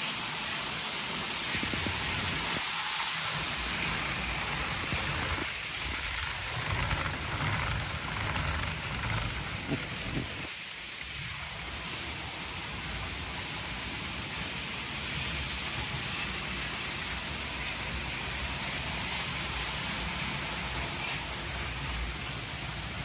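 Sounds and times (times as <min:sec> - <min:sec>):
model trains rumbling on rails: 0:00.0 - 0:23.0.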